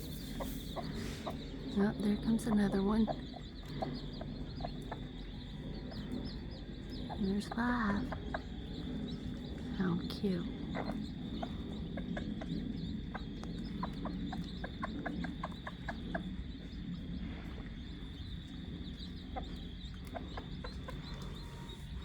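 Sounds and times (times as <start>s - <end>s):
hen clucking: 0.0s - 22.0s.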